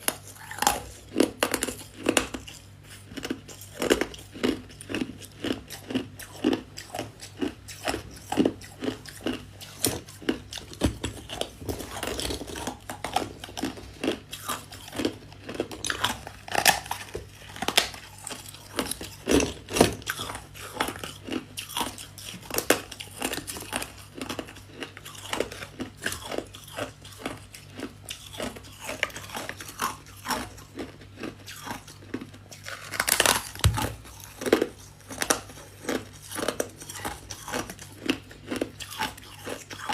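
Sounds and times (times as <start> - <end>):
crunchy frost being chewed: 0.0 - 39.9.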